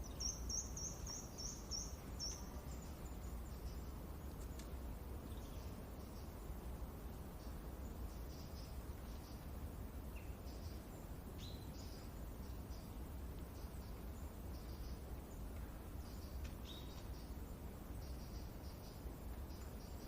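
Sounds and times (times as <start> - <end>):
birds chirping: 0.0 - 20.0
low wind rumble: 0.0 - 20.0.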